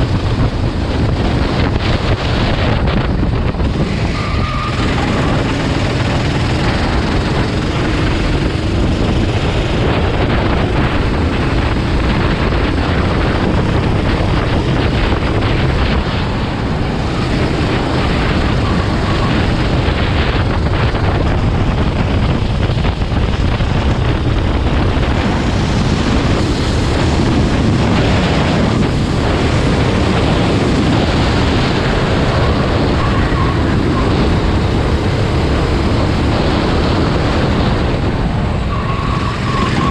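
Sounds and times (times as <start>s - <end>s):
racing vehicles rumbling: 0.0s - 39.9s
wind buffeting microphone: 0.0s - 39.9s.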